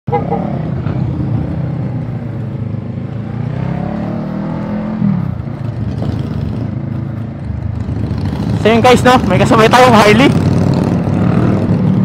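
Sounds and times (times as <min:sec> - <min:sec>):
motorcycle engine accelerating: 0:00.1 - 0:12.0.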